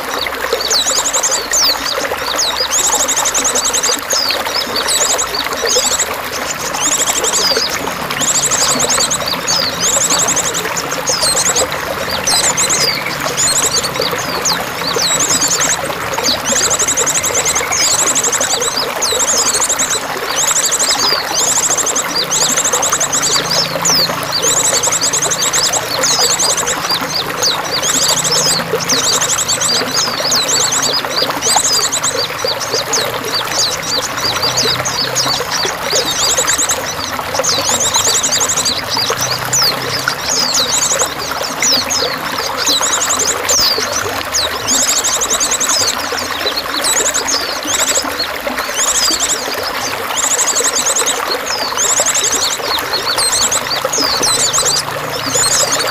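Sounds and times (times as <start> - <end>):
splashing water: 0.0 - 55.9.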